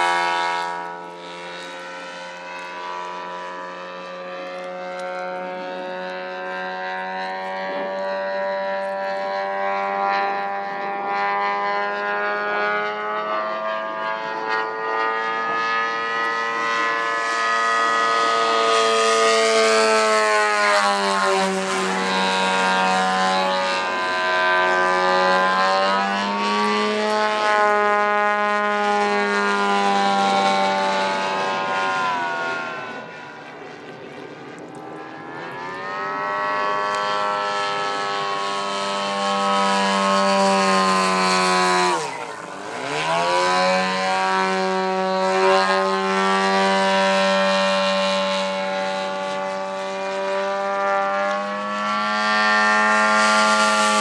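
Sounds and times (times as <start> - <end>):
model plane engine droning: 0.0 - 54.0.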